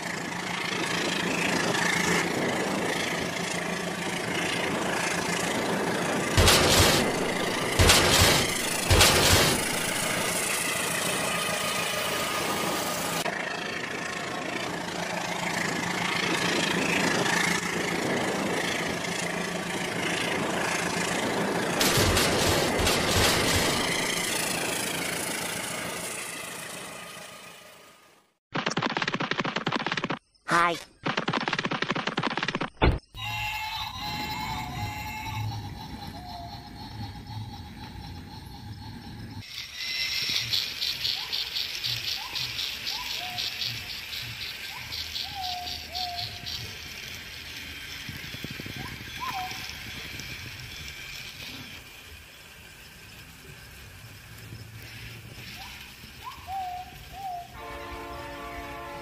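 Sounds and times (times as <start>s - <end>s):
toy train motor whirring: 0.5s - 13.2s, 14.3s - 27.4s, 33.2s - 57.6s.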